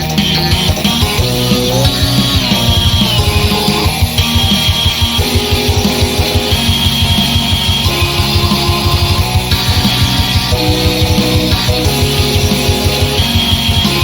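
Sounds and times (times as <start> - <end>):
fast driving drum beat: 0.0 - 14.0.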